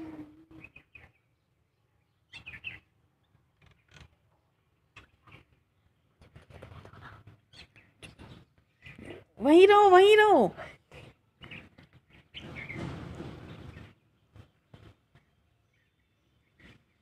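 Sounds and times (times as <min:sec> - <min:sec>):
small birds chirping: 0:00.5 - 0:09.7, 0:11.0 - 0:17.0.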